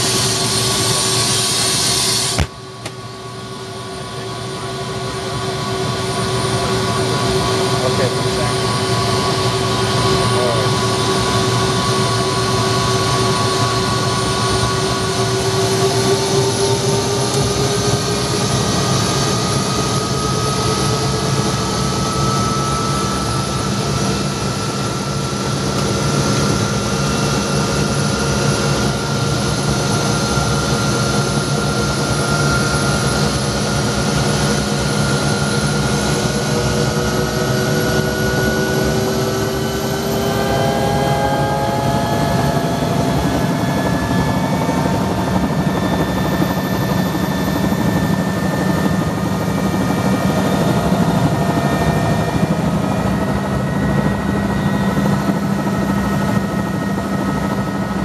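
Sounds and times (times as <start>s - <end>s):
helicopter engine drone: 0.0s - 58.0s
high turbine whine: 0.0s - 58.0s.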